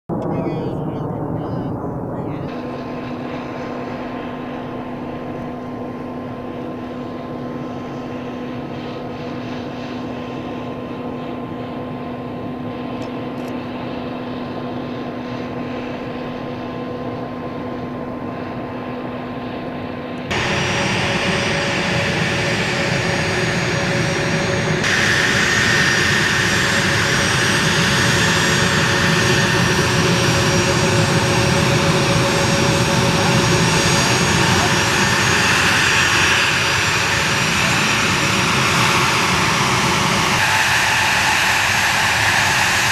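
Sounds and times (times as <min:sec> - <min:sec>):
higher engine whine: 0:00.1 - 0:42.9
jet engines whining: 0:00.1 - 0:42.9.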